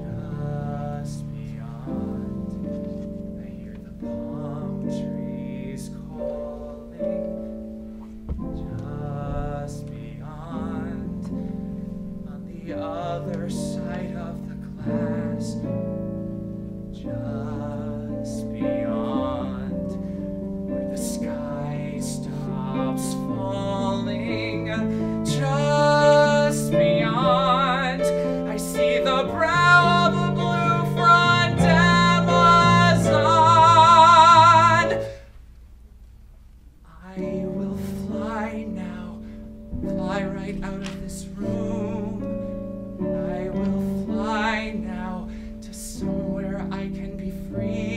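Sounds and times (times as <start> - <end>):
man singing: 0.0 - 7.6, 8.4 - 15.9, 16.9 - 35.2, 36.9 - 47.9.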